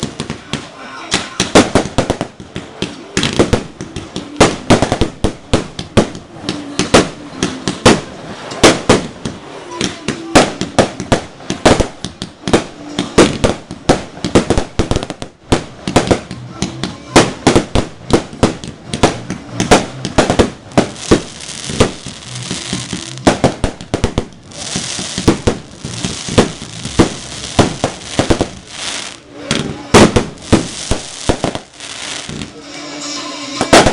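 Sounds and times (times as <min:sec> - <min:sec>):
fireworks crackling hiss: 0:00.0 - 0:16.4, 0:17.2 - 0:33.9
fireworks bangs and pops: 0:00.0 - 0:32.6, 0:33.5 - 0:33.9.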